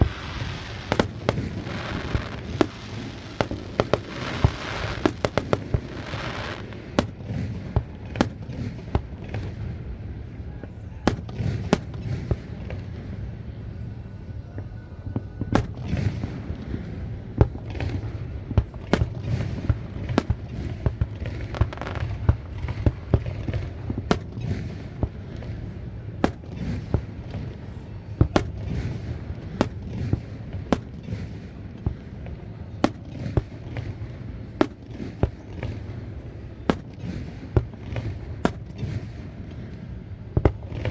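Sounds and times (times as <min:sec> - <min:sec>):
low rumble of shells bursting: 0:00.0 - 0:10.4, 0:11.1 - 0:13.1, 0:15.4 - 0:40.9
firework bangs: 0:00.0 - 0:13.1, 0:15.4 - 0:40.9.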